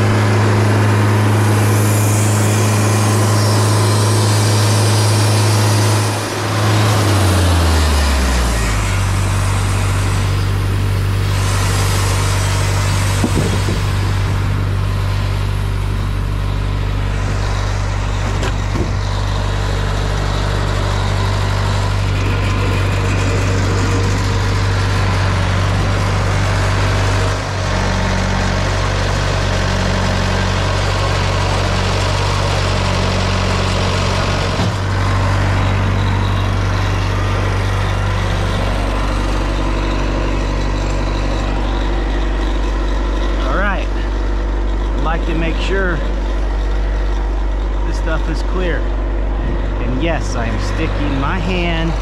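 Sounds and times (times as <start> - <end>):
sawmill engine drone: 0.0 - 52.0.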